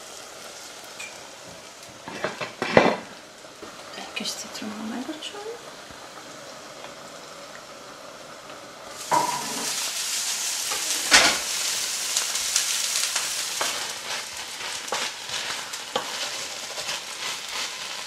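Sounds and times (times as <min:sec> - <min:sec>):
vegetables sizzling in a pan: 0:00.0 - 0:18.0.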